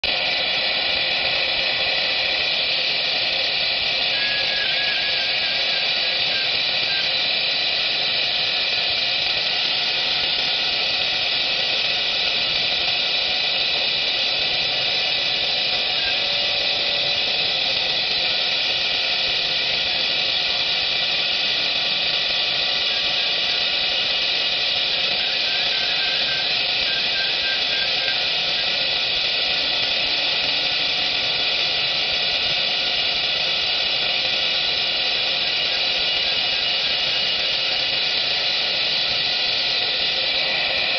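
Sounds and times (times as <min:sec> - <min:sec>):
high-pitched spindle whine: 0:00.0 - 0:40.9.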